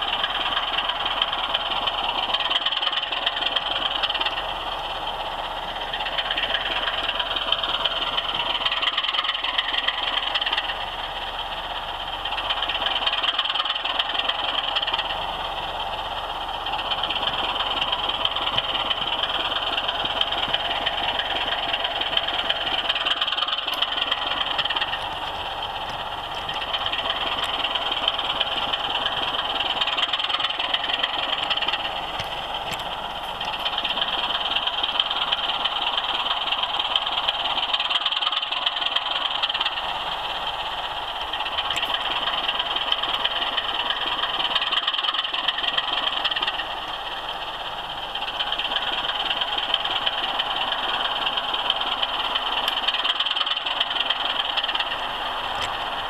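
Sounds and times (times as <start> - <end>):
model train whirring rattle: 0.0 - 56.0.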